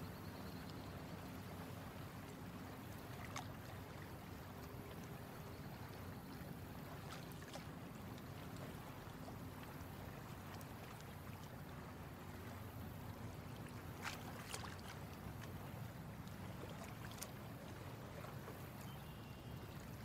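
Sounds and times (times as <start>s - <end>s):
water lapping: 0.0s - 20.0s.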